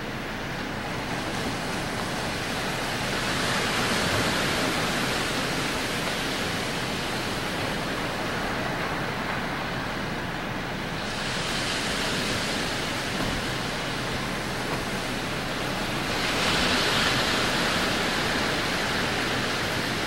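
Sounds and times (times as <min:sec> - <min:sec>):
water rushing over rocks: 0:00.6 - 0:20.0.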